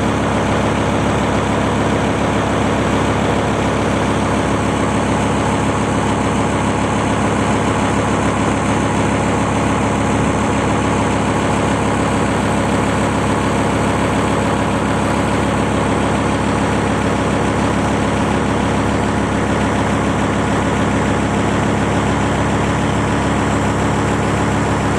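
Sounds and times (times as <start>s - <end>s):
ship engine humming: 0.0s - 24.9s.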